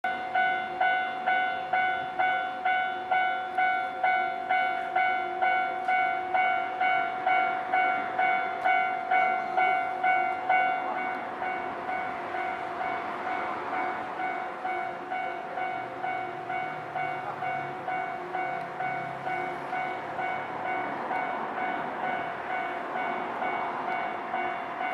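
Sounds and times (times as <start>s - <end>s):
electric train approaching: 0.1s - 24.9s
level-crossing bell clanging: 0.1s - 24.9s.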